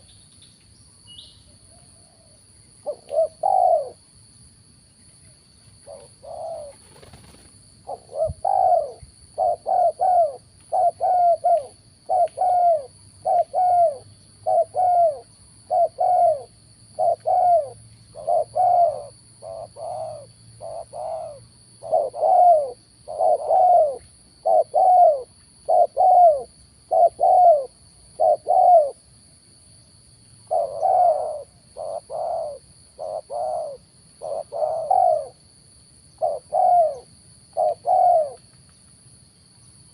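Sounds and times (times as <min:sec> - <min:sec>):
dove cooing: 0:01.8 - 0:04.0, 0:05.8 - 0:29.0, 0:30.5 - 0:35.4, 0:36.2 - 0:38.4.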